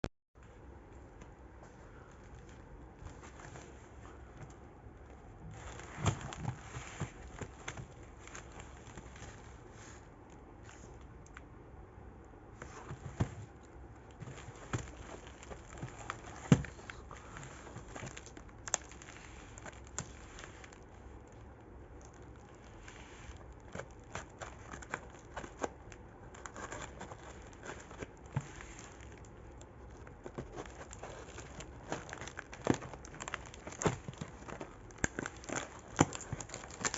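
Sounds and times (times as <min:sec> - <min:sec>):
packaging crinkling and rustling: 0:02.2 - 0:11.1, 0:12.6 - 0:36.9.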